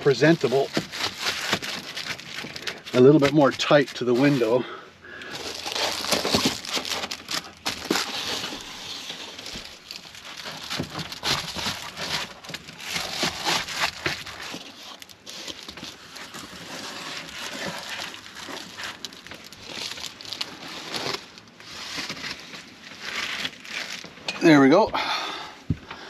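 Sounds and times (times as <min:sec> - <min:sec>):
window covers crinkling and rustling: 0:00.0 - 0:04.6, 0:05.2 - 0:24.9.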